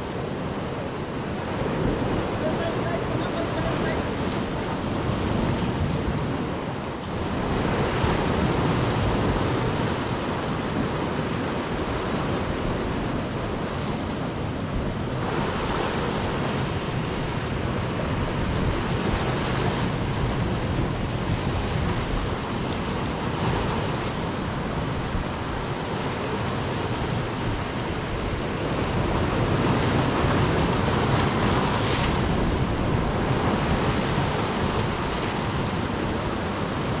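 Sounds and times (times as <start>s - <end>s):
waves breaking over rocks: 0.0s - 37.0s.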